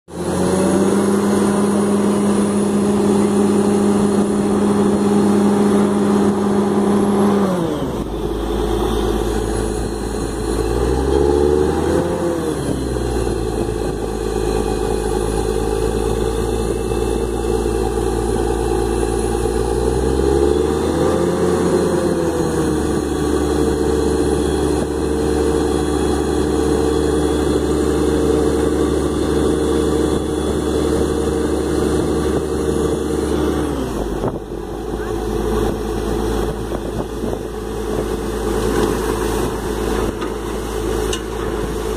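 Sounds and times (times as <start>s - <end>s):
drilling rig engine running: 0.1s - 41.9s.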